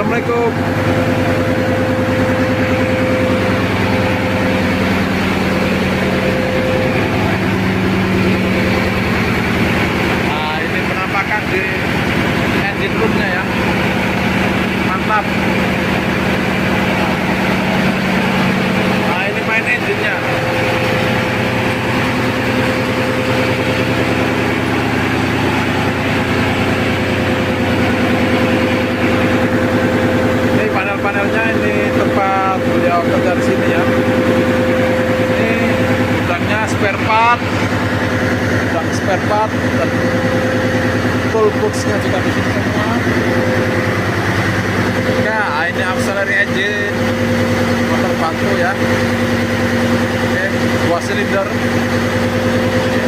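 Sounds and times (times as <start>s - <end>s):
diesel engine throbbing: 0.0s - 53.0s.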